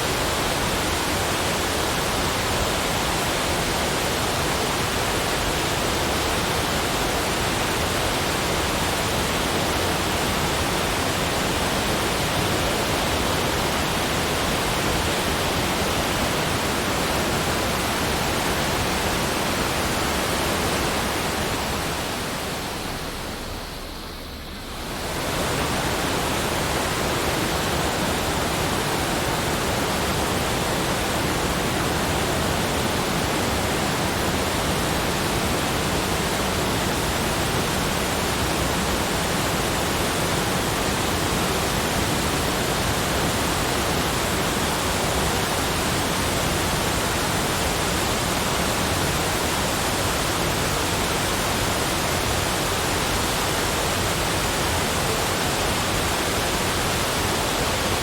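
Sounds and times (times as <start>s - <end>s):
steady rushing noise: 0.0s - 58.0s.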